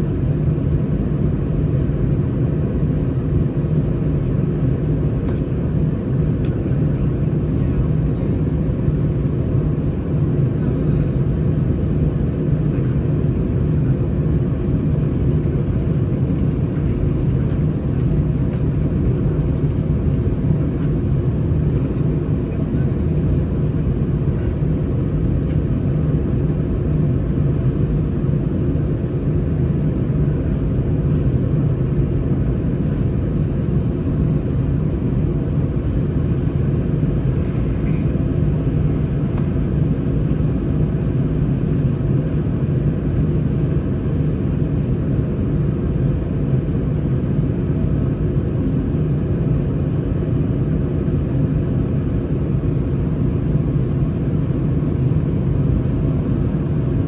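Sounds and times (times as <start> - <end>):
airliner cabin low rumble: 0.0 - 57.0.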